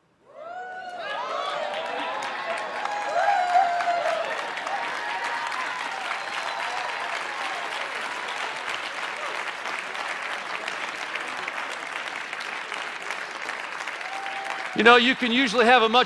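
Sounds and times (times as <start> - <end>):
crowd applauding: 0.4 - 16.0.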